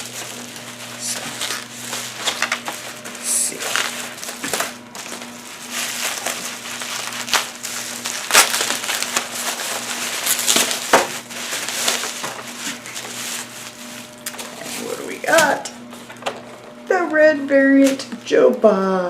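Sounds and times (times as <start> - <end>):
packaging crinkling and rustling: 0.0 - 16.8.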